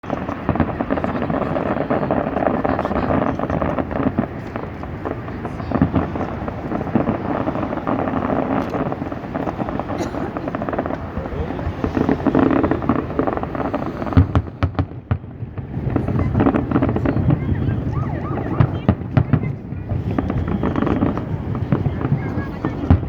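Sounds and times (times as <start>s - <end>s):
crowd chattering: 0.0s - 23.0s
fireworks bangs: 0.0s - 23.0s.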